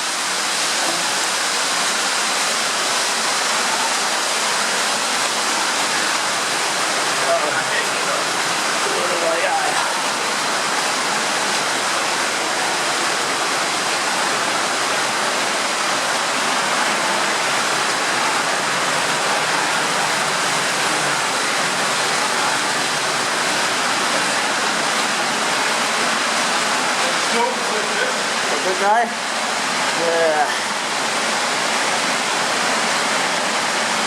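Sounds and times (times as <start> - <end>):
water rushing through tunnel: 0.0 - 34.0.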